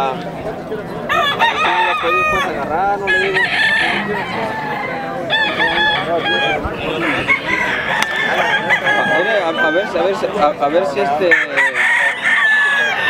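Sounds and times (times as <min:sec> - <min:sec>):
chickens clucking: 0:00.0 - 0:13.0
roosters crowing: 0:00.9 - 0:13.0.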